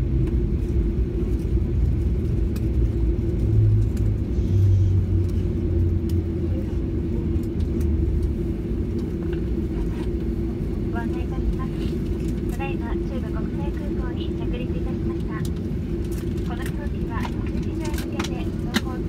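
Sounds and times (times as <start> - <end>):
low rumble of engines and wheels: 0.0 - 19.0
steady cabin hum: 0.0 - 19.0.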